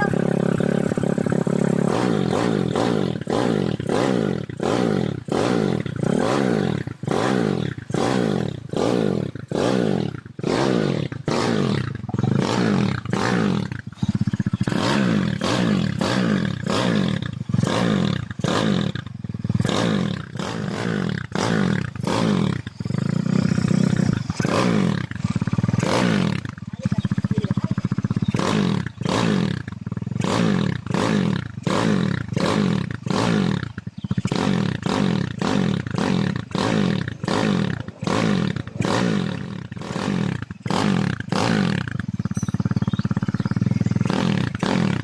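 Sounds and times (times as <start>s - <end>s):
single-cylinder engine revving: 0.0s - 45.0s.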